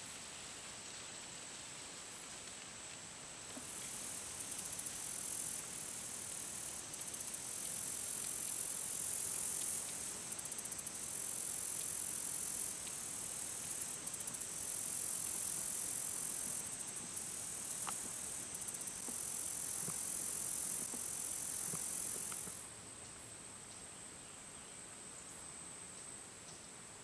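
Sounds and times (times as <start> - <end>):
insects buzzing drone: 2.2 - 27.0.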